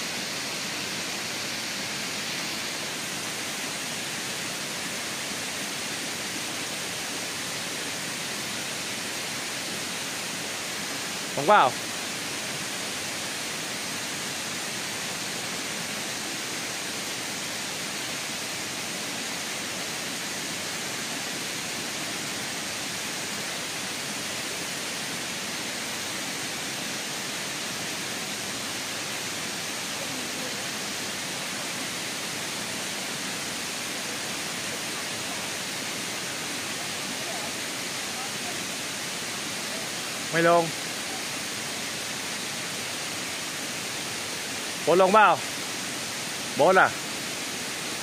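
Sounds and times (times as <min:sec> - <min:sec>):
waterfall rushing over rocks: 0:00.0 - 0:48.0.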